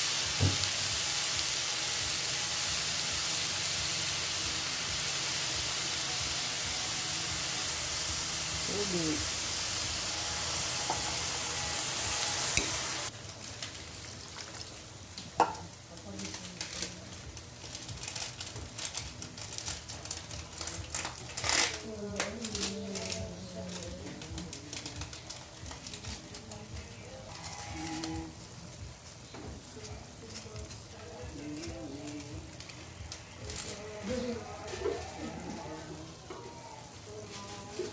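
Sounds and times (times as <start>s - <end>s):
food sizzling in a wok: 0.0s - 37.9s.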